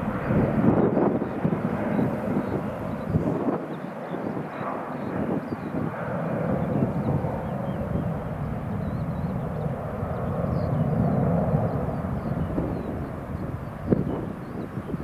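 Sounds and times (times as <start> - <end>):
jet engines at take-off power: 0.0 - 15.0.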